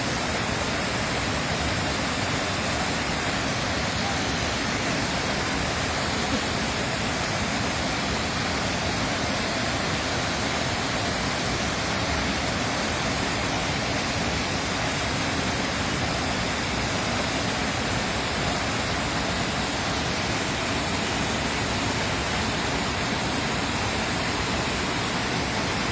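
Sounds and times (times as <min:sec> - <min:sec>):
running water flowing: 0:00.0 - 0:25.9.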